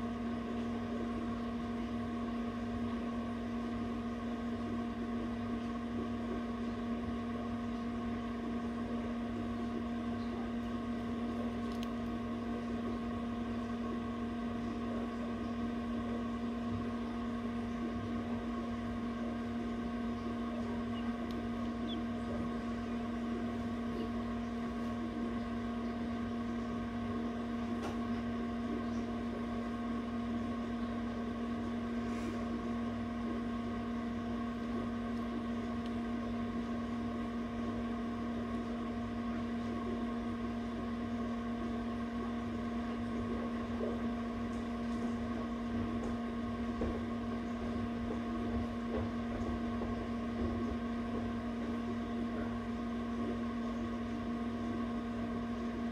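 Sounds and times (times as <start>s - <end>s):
egg incubator electric hum: 0.0s - 55.9s.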